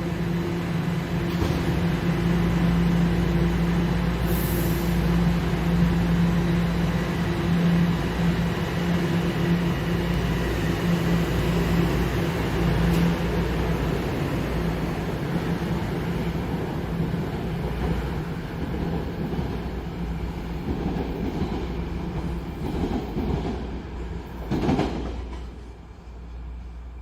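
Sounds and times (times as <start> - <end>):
subway train motor hum: 0.0 - 27.0.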